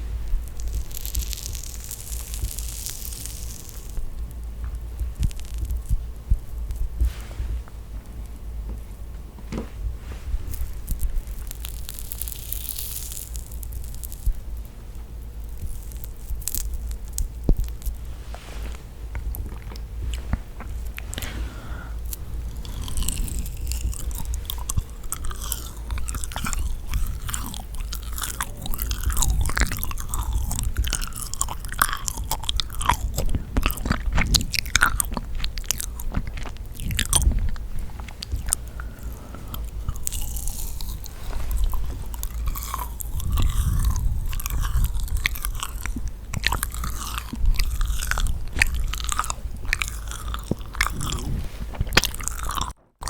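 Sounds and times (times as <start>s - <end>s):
cookie crunching: 0.0s - 8.7s, 10.0s - 53.0s
sticky wet chewing: 0.4s - 7.3s, 10.5s - 14.4s, 15.2s - 53.0s.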